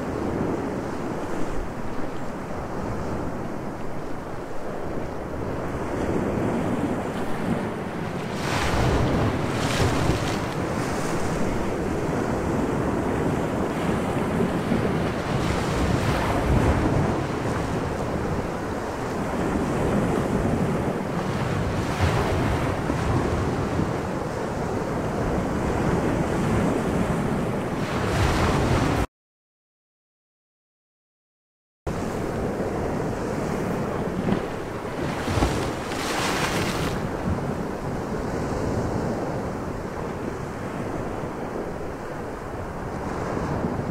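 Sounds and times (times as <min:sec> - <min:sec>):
sea waves breaking: 0:00.0 - 0:29.1, 0:31.9 - 0:43.9
wind: 0:00.0 - 0:29.1, 0:31.9 - 0:43.9.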